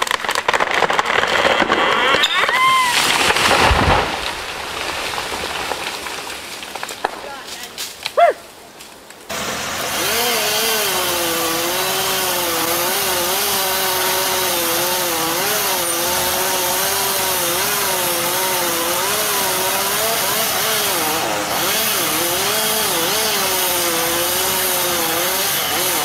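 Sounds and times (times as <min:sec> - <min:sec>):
chainsaw cutting wood: 0:00.0 - 0:07.1, 0:09.3 - 0:26.0.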